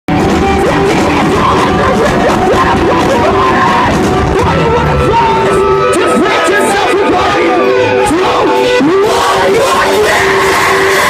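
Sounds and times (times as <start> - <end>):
loud rock music: 0.1 - 11.0
person singing and yelling: 0.1 - 11.0.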